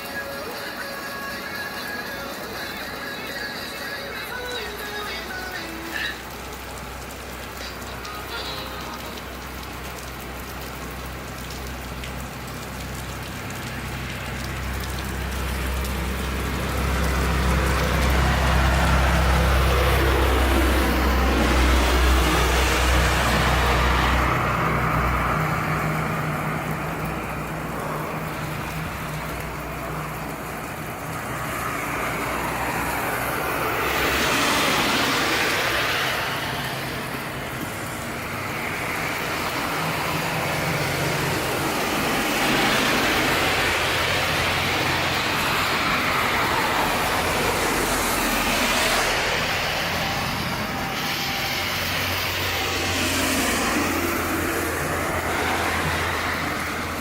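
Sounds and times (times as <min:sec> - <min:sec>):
steady low traffic hum: 0:00.0 - 0:57.0
vehicles passing on wet road: 0:00.0 - 0:57.0.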